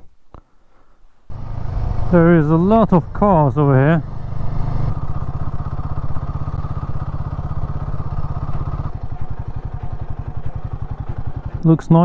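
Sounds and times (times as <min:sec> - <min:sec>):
motorcycle engine running: 0:01.3 - 0:12.0.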